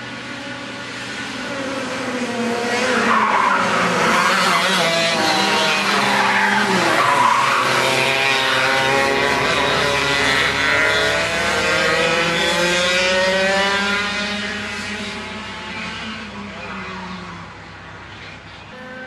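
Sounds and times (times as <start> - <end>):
kart engines racing: 0.0 - 19.0
kart passing close by: 1.4 - 17.2.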